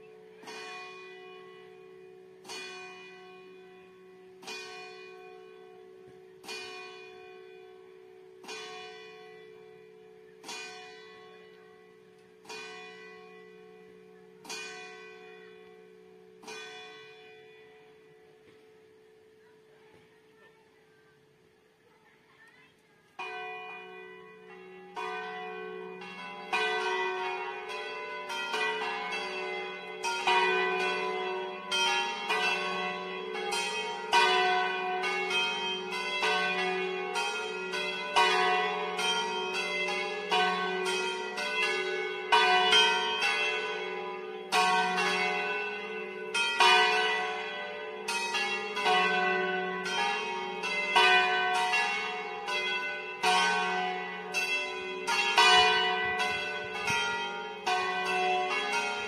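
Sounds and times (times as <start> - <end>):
church bells pealing: 0.0 - 19.7, 23.2 - 59.0.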